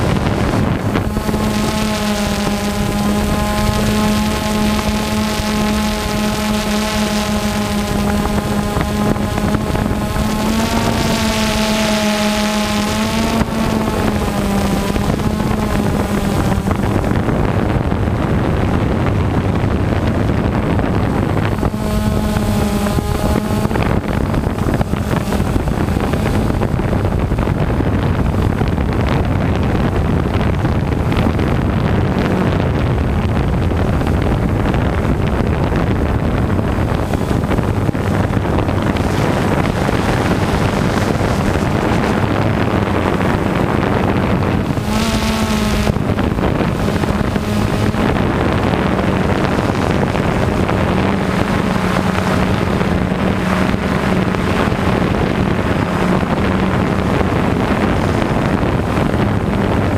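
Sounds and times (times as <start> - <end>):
drone propellers whirring: 0.0 - 59.9
wind on microphone: 0.0 - 59.9.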